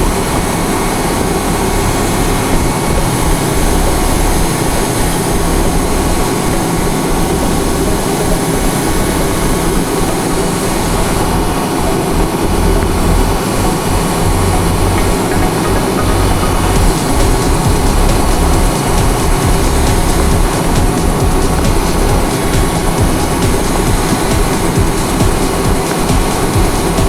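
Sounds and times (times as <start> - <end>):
turboprop engine droning: 0.0 - 27.0.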